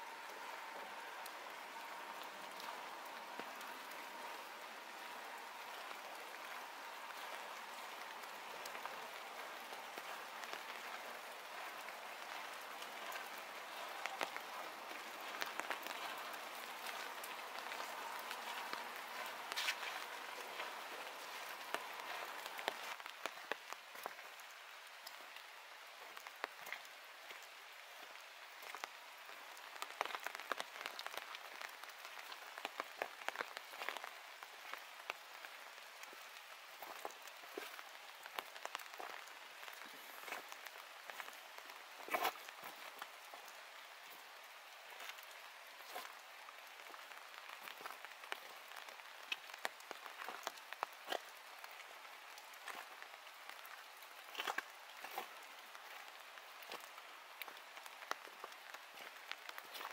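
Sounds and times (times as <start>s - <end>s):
rain on forest leaves: 0.0s - 59.9s
water drips: 0.0s - 59.9s.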